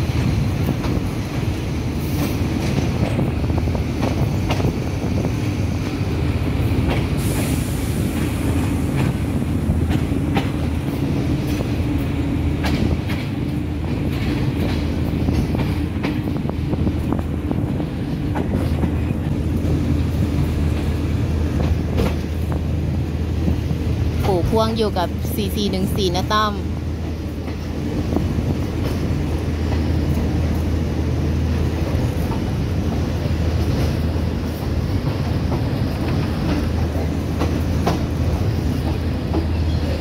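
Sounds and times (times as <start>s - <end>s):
train rumbling: 0.0s - 40.0s
train wheels clacking: 0.0s - 40.0s.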